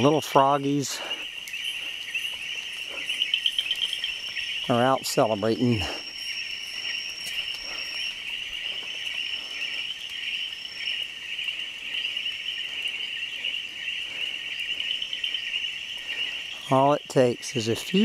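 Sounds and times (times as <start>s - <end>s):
chorus of frogs calling: 0.0s - 18.0s.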